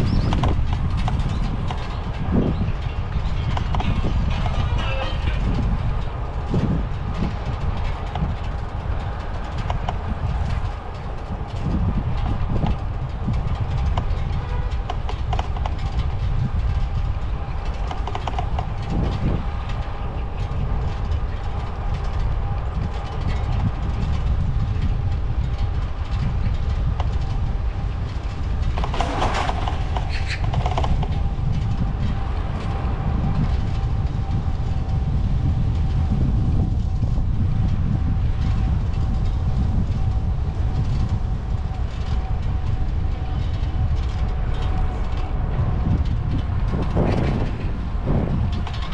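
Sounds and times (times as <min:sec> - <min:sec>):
wind and tyre rumble: 0:00.0 - 0:48.9.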